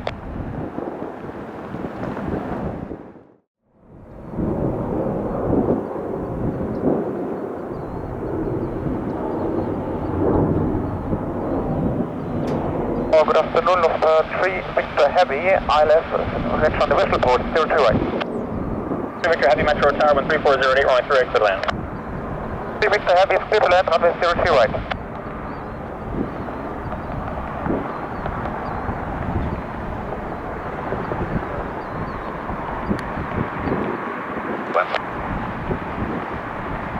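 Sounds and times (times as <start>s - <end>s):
jet engines rumbling: 0.0s - 36.9s.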